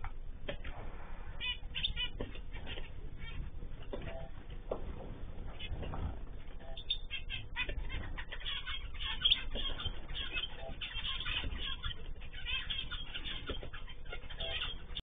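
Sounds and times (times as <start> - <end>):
small cage birds chirping: 1.4 - 15.0.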